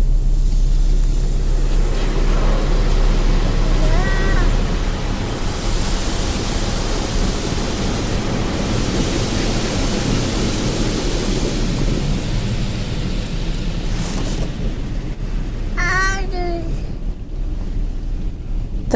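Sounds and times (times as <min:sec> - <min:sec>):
water jets spraying over car: 0:00.0 - 0:18.9.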